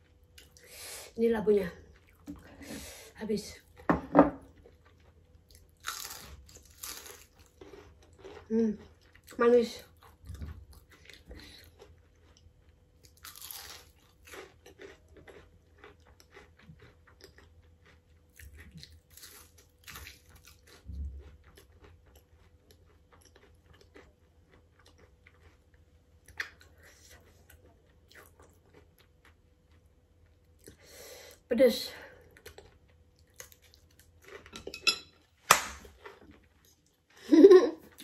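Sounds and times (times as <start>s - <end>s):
person chewing food: 0.0s - 0.7s, 1.8s - 2.6s, 3.7s - 31.4s, 32.2s - 37.2s.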